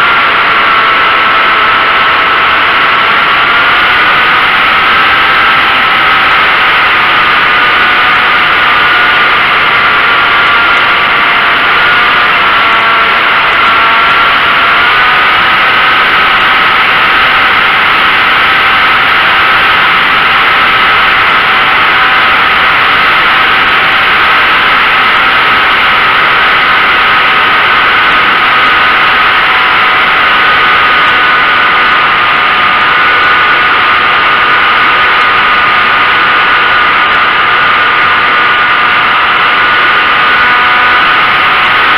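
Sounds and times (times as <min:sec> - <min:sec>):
model aircraft motor whine: 0:00.0 - 0:41.9.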